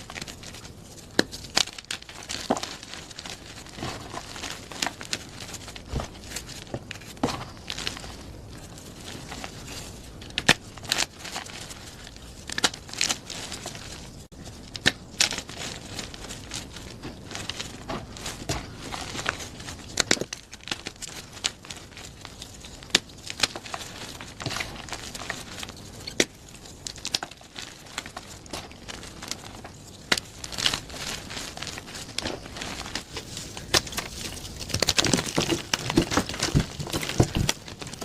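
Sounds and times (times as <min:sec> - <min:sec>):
chalk being crushed: 0:00.0 - 0:38.0.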